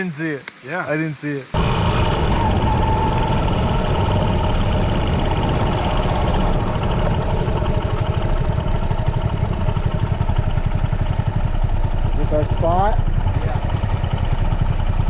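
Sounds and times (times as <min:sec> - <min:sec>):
dirt bike engine running: 0:01.6 - 0:15.0.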